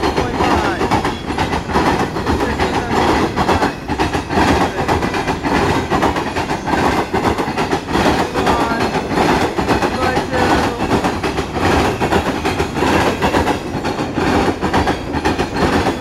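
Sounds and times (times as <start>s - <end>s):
freight train rumbling: 0.0s - 16.0s
steel wheels clacking on rails: 0.0s - 16.0s.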